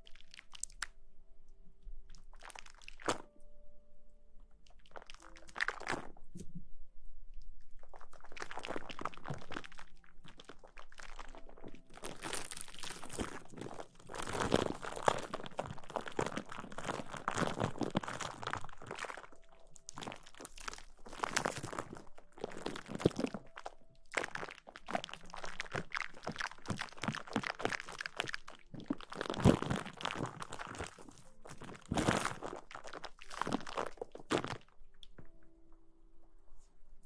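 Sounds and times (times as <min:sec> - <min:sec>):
crackling and scratching on microphone: 0:04.7 - 0:06.6, 0:07.4 - 0:35.4.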